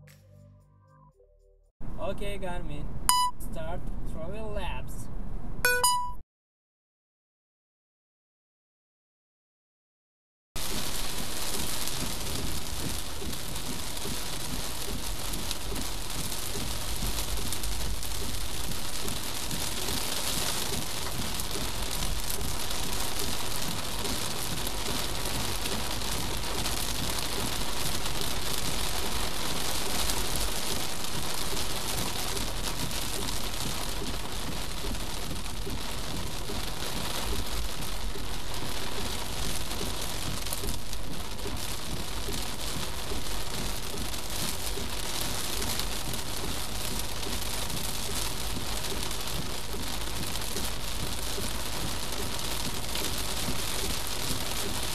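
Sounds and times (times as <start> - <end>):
road rumble: 1.8 - 5.6, 10.6 - 54.9
heavy rain on car: 10.6 - 54.9.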